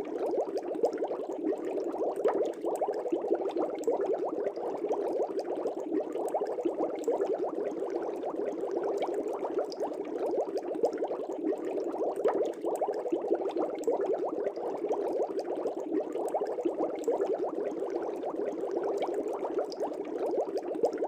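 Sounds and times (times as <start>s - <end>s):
fish tank bubbling: 0.0s - 21.0s.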